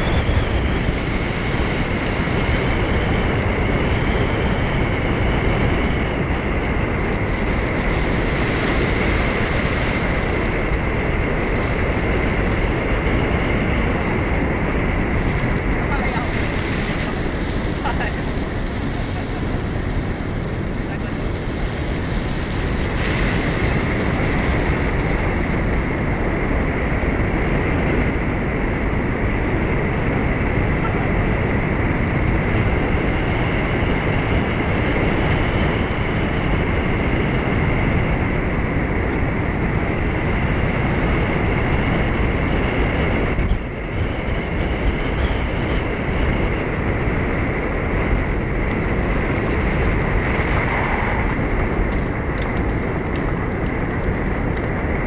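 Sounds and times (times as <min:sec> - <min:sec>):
car road and wind noise: 0:00.0 - 0:55.0
faint steady whine: 0:00.0 - 0:55.0.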